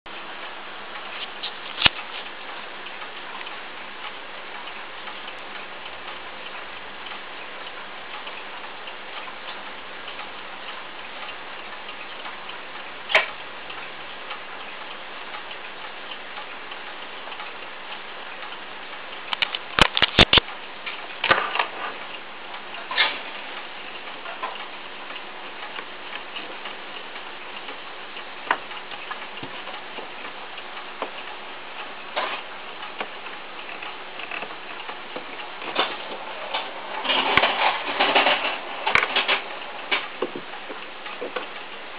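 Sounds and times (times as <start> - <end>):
faint clock ticking: 0.1 - 41.9
steady hiss: 0.1 - 41.9.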